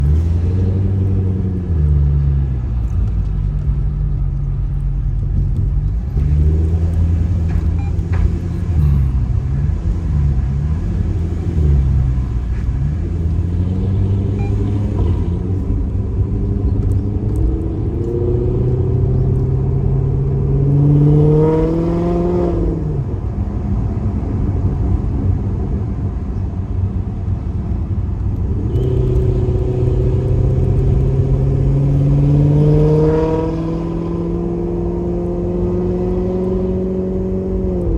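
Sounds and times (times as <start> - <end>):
car engine revving: 0.0 - 23.5, 28.2 - 37.9.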